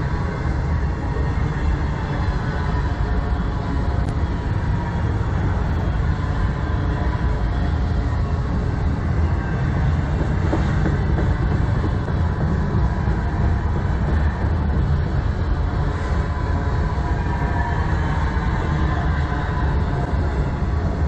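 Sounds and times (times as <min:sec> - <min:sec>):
steel wheels rumbling on rails: 0:00.0 - 0:21.0.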